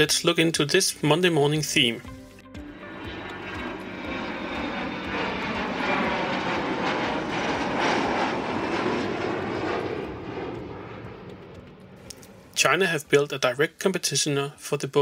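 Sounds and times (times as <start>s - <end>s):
airplane passing overhead: 0.0s - 15.0s.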